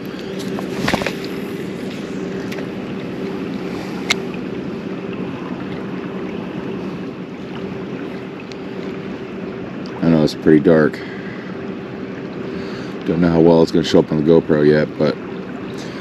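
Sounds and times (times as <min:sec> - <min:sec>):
low mechanical hum: 0:00.0 - 0:16.0
wash of noise: 0:00.0 - 0:16.0.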